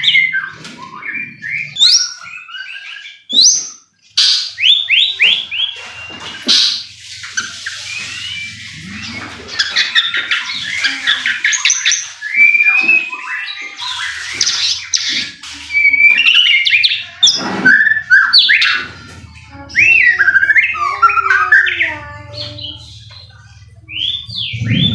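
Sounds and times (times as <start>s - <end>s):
bird singing varied song: 0.0s - 24.9s.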